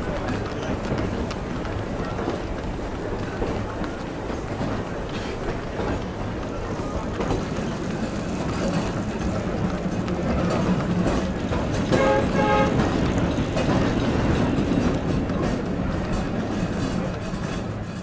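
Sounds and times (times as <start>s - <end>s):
street traffic: 0.0s - 18.0s
tram rumbling: 0.0s - 18.0s.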